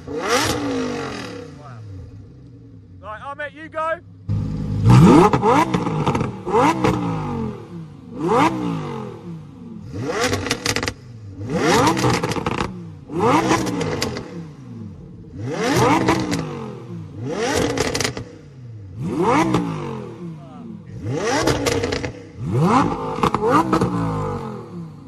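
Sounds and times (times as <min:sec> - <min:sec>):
car engine revving: 0:00.0 - 0:03.4, 0:04.0 - 0:25.0.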